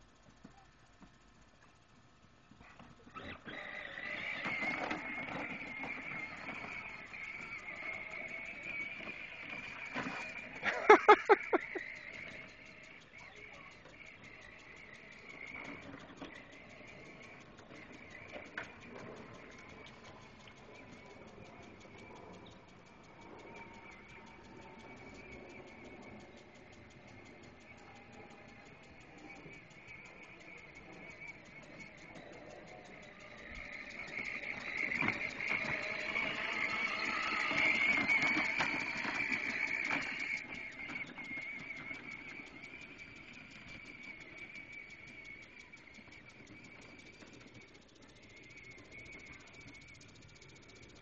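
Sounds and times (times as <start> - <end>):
plastic wheels knocking and rattling: 0.0 - 51.0
electric motor whine: 2.5 - 51.0
high-pitched insect drone: 3.1 - 51.0.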